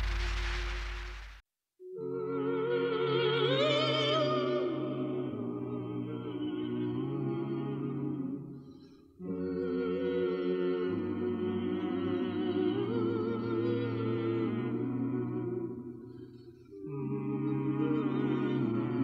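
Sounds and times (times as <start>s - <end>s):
male ensemble singing chords: 2.0s - 19.0s.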